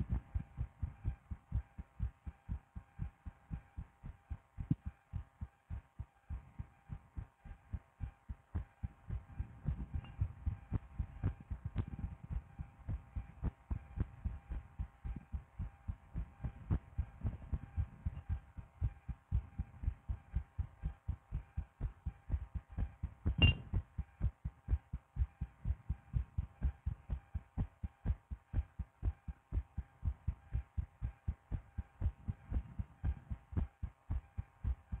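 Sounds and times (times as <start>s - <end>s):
heartbeat thumps: 0.0s - 35.0s.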